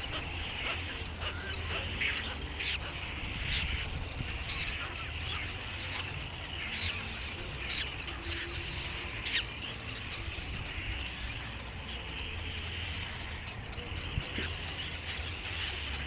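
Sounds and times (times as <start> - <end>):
bird chatter: 0.0 - 16.0
small birds chirping: 0.0 - 16.0.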